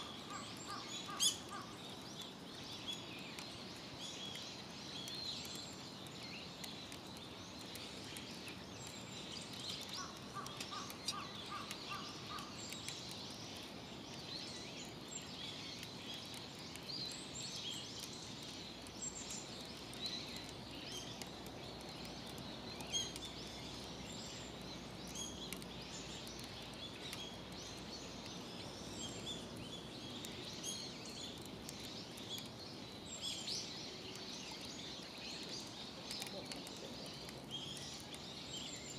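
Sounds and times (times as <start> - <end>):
birds chirping and singing: 0.0 - 38.9
outdoor background hiss: 0.0 - 38.9.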